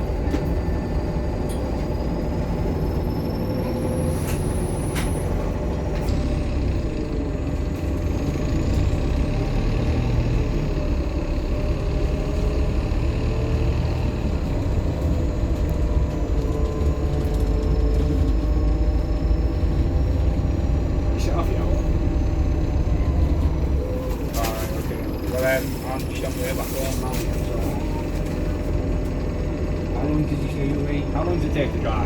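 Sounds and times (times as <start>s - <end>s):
bus diesel engine and road drone: 0.0s - 32.0s.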